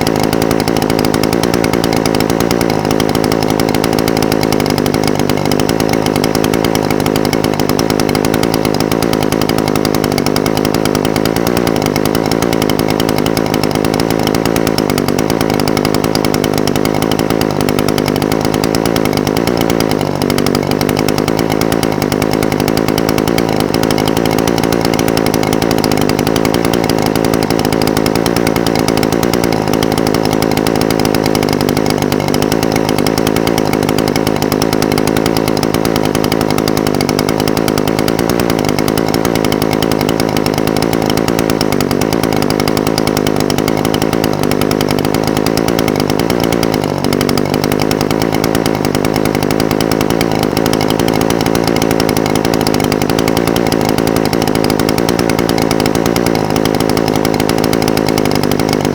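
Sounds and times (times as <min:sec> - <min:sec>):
brush cutter engine idling: 0:00.0 - 0:58.9.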